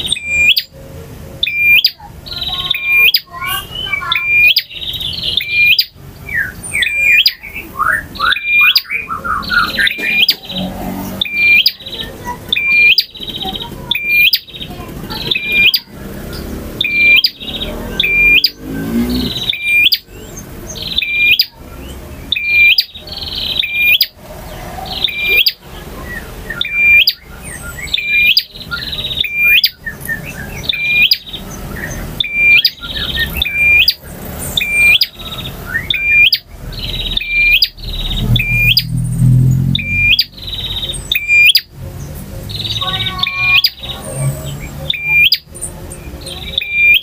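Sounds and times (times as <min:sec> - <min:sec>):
bird singing high sharp phrase: 0:00.0 - 0:00.8, 0:01.4 - 0:41.7, 0:42.5 - 0:47.0.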